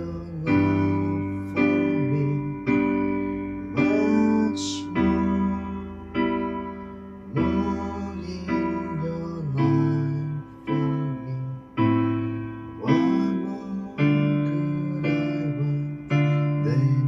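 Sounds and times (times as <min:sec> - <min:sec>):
slow keyboard chords: 0:00.0 - 0:17.0.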